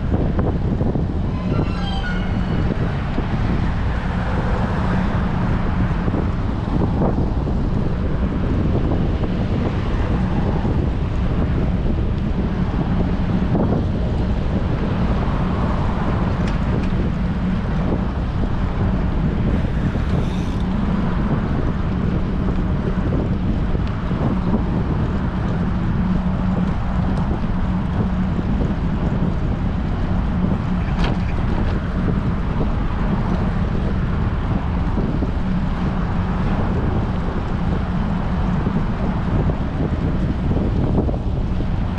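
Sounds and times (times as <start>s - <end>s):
low hum: 0.0s - 41.9s
wind buffeting microphone: 0.0s - 41.9s.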